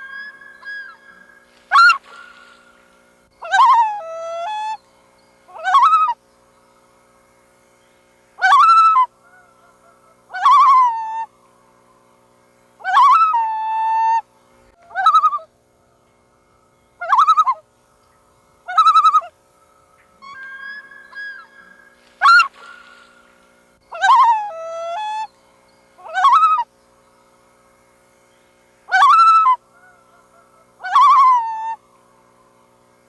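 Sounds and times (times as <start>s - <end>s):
loons calling: 0.0s - 32.9s
faint steady hum: 0.0s - 33.0s.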